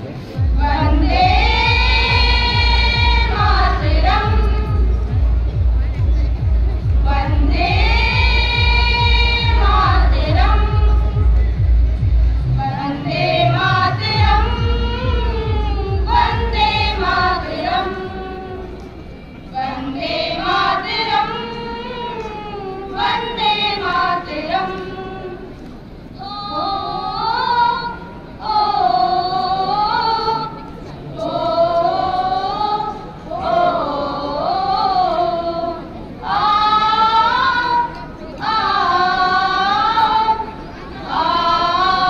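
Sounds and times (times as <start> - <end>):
voices singing a cappella: 0.4 - 5.3, 5.9 - 11.6, 12.4 - 18.8, 19.5 - 42.0.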